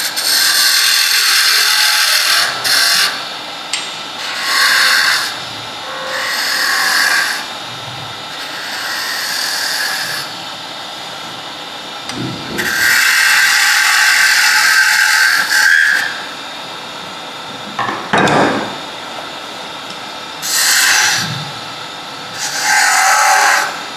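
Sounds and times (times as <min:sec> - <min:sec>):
woodturning tool cutting wood: 0:00.0 - 0:11.4, 0:12.1 - 0:16.4, 0:20.4 - 0:23.9
lathe running: 0:00.0 - 0:23.9.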